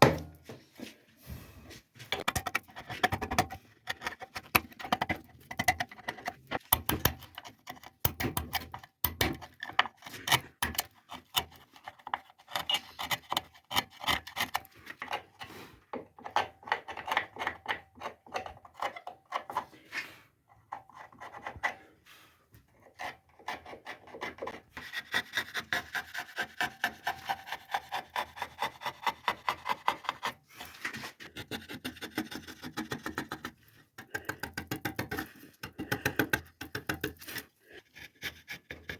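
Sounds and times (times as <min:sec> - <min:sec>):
hand tool scraping wood: 0:00.1 - 0:20.2, 0:20.8 - 0:38.9.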